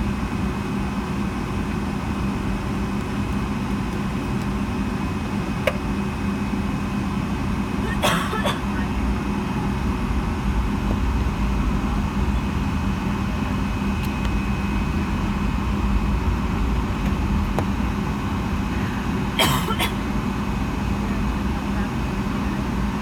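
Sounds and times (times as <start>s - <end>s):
airliner cabin engine rumble: 0.0s - 23.0s
constant low hum: 0.0s - 23.0s.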